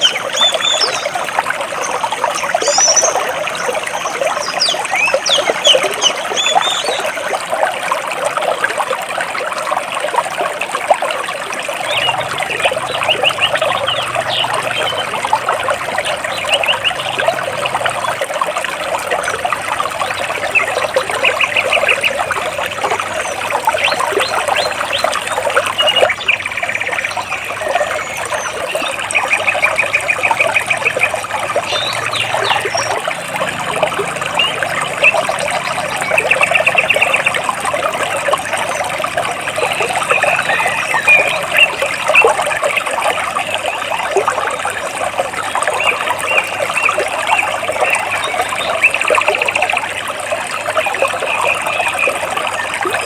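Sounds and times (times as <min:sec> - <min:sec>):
stream water trickling: 0:00.0 - 0:53.0.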